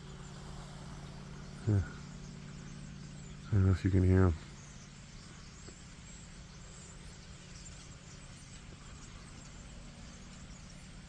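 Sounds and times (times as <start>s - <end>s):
flock of birds chirping: 0.0s - 11.0s.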